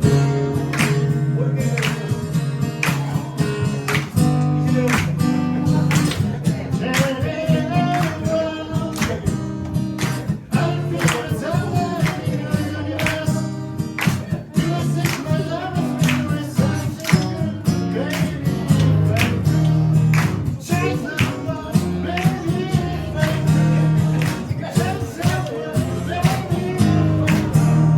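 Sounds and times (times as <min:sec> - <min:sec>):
person singing: 0:00.0 - 0:09.3, 0:10.2 - 0:19.9, 0:20.5 - 0:27.9
acoustic guitar strumming: 0:00.0 - 0:27.9.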